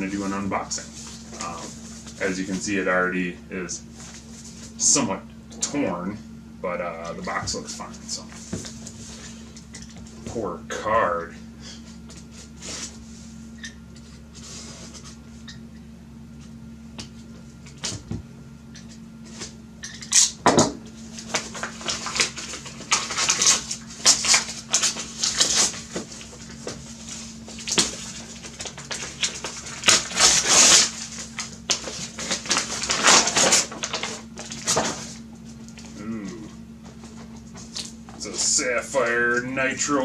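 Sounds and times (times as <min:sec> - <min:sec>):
faint steady low hum: 0:00.0 - 0:20.0, 0:20.6 - 0:40.0.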